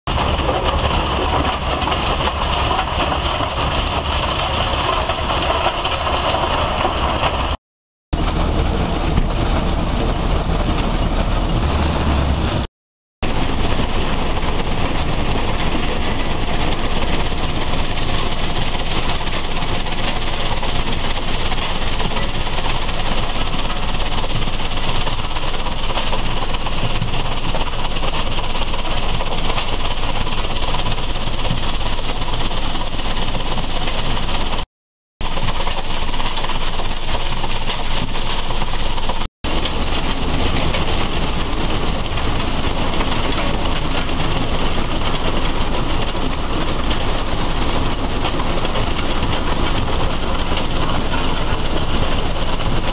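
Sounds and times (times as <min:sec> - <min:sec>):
rock crushing plant running: 0:00.1 - 0:07.6, 0:08.2 - 0:34.6, 0:35.2 - 0:52.9.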